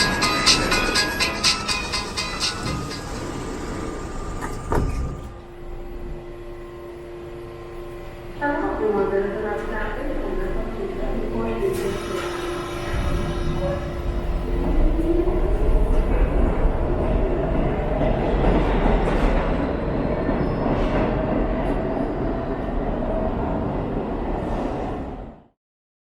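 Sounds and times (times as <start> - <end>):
subway train rumbling with whine: 0.0 - 25.6.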